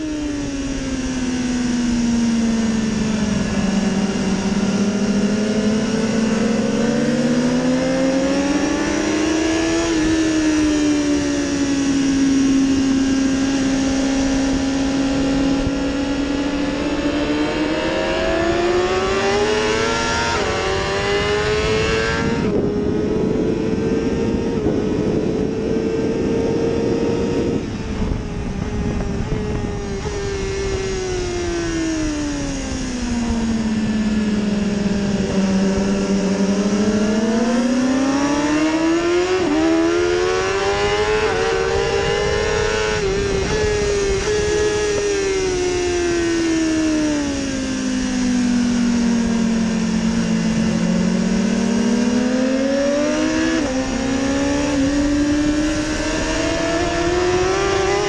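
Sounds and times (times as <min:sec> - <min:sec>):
motorcycle engine racing: 0:00.0 - 0:58.0
wind rush: 0:00.0 - 0:58.0.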